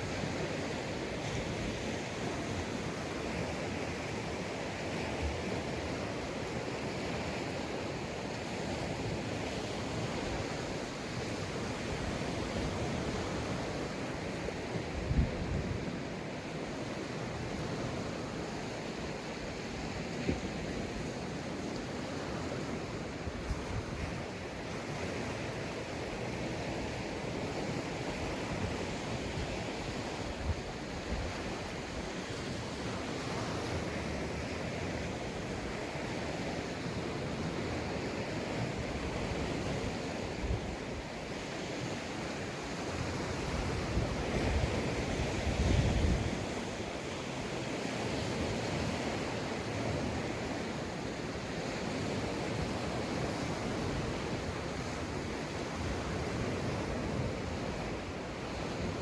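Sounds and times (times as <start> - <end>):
waves breaking on a sandy beach: 0.0 - 59.0.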